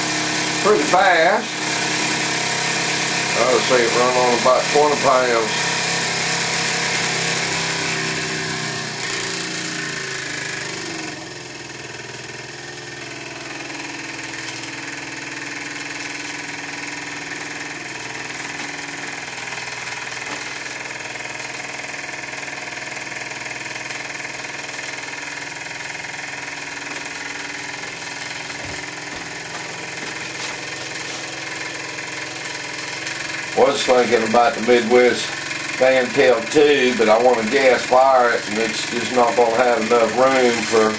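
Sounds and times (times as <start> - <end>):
steam engine mechanical chatter: 0.1 - 40.9.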